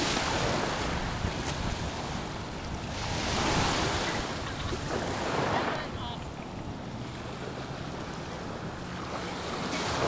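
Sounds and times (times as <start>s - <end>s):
small waves washing in surf: 0.0s - 10.0s
wind buffeting microphone: 0.0s - 10.0s.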